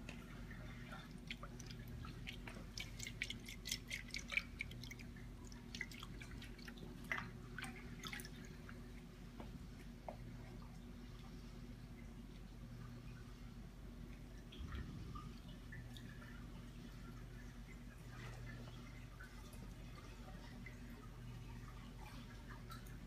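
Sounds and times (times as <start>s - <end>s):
aquarium pumps humming: 0.0s - 23.0s
water dripping and splashing: 0.0s - 23.0s.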